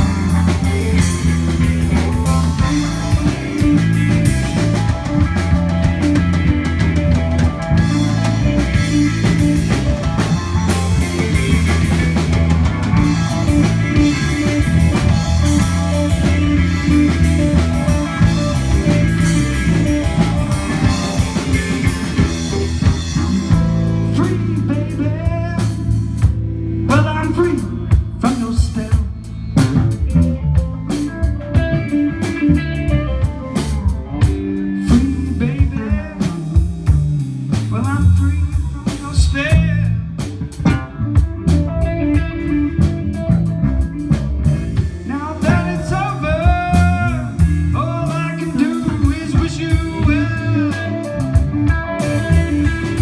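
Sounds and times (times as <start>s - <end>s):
bass guitar: 0.0s - 53.0s
drum kit playing slow groove: 0.0s - 53.0s
electric guitar lead lines: 0.0s - 53.0s.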